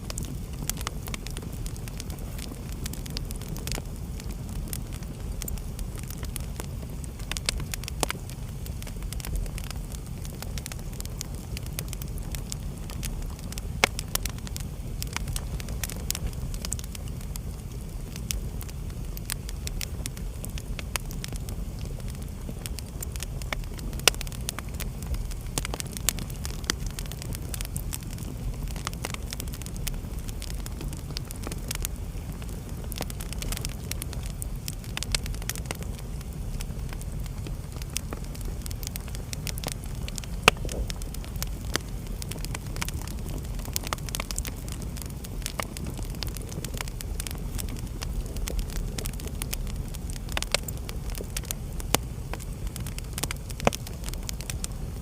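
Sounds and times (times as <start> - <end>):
fireplace fire crackling: 0.0 - 55.0.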